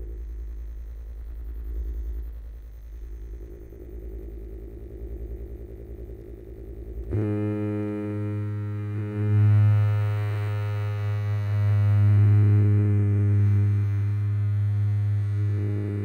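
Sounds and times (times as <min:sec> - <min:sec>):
low droning tone: 0:00.0 - 0:16.0
low pulsing hum: 0:00.0 - 0:16.0.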